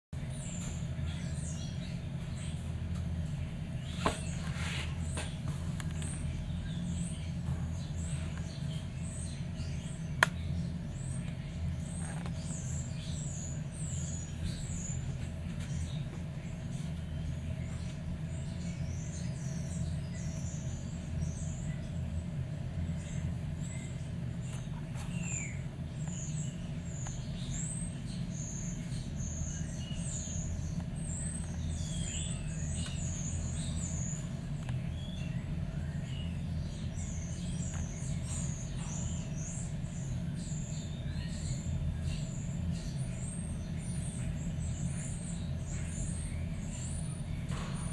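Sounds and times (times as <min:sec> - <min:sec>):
steady low hum: 0:00.1 - 0:47.9.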